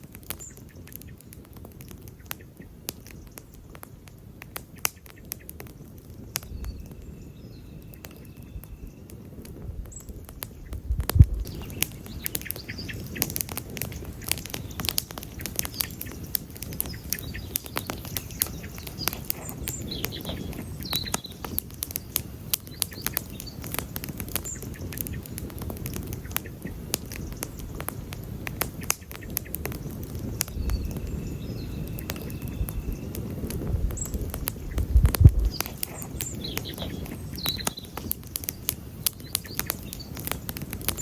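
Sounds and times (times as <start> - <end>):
wood campfire crackling: 0.0 - 41.0.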